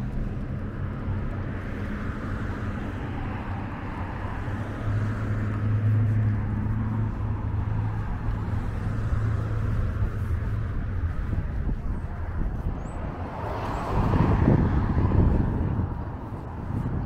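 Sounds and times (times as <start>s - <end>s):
cars driving past: 0.0s - 17.0s
low engine hum: 0.0s - 17.0s.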